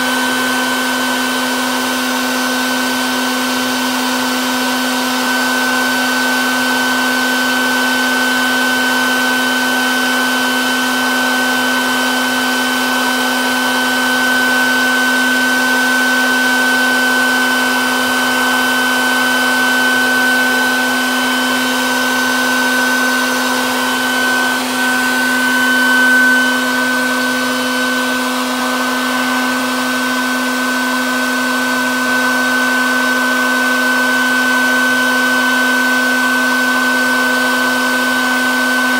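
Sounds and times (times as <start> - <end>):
vacuum motor humming: 0.0 - 38.9.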